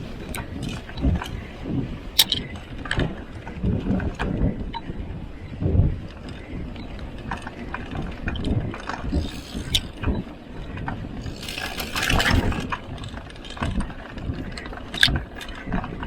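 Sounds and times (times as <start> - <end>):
bike clicks and rattles: 0.0 - 5.0, 6.0 - 16.0.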